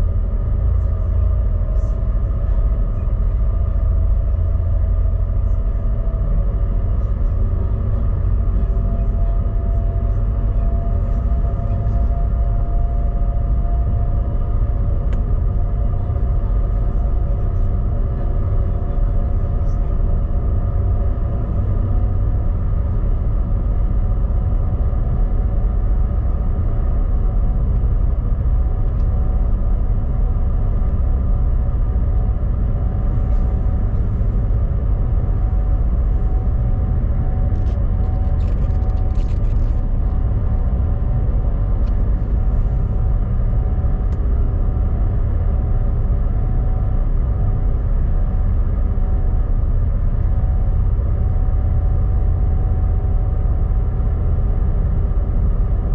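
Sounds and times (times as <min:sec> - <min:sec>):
engine running: 0:00.0 - 0:55.9
steady hum: 0:00.0 - 0:55.9.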